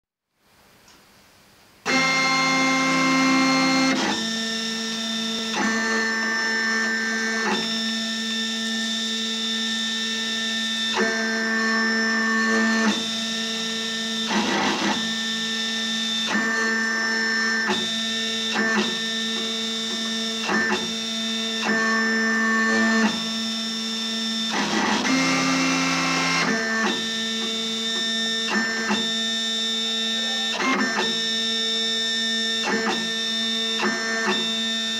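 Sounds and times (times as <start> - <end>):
stepper motors whining: 1.9 - 34.9.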